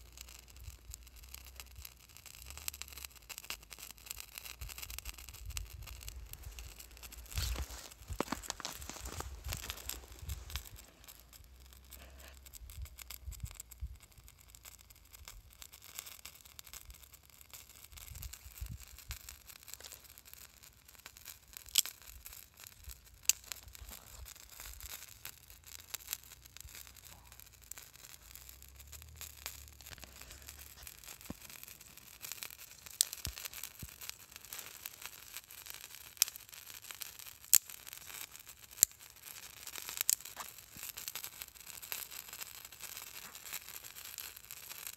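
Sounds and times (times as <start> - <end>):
fire crackling and popping: 0.0 - 44.9
fire hissing: 0.0 - 44.9.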